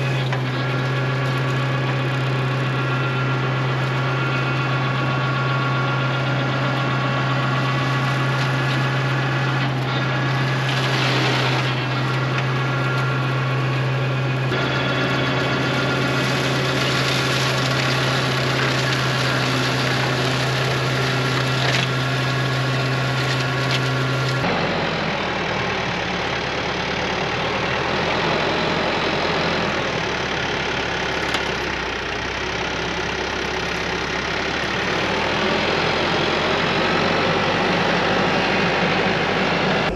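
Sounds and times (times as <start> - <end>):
tractor running flail mower: 0.0 - 39.9.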